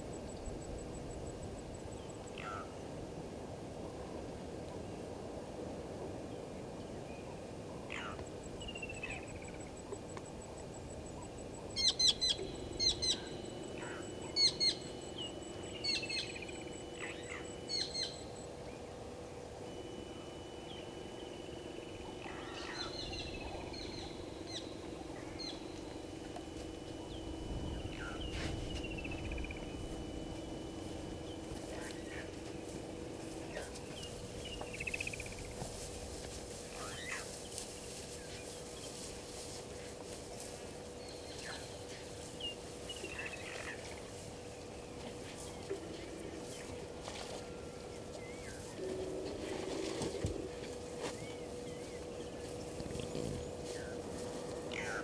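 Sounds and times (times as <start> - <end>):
wild birds calling: 0.0 - 2.9, 7.2 - 55.0
steady background hiss: 0.0 - 55.0.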